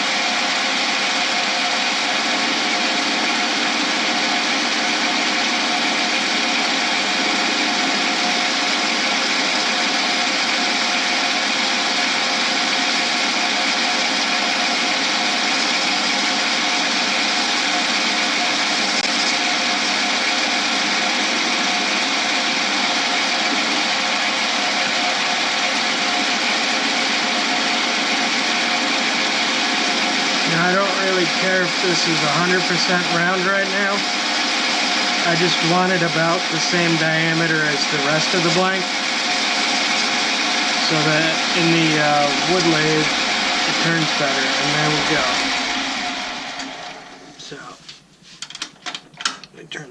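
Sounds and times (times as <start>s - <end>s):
power tool motor running: 0.0s - 47.5s.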